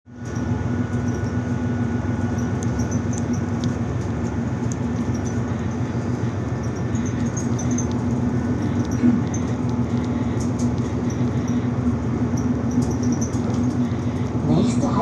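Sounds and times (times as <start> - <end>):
low mechanical hum: 0.1 - 15.0.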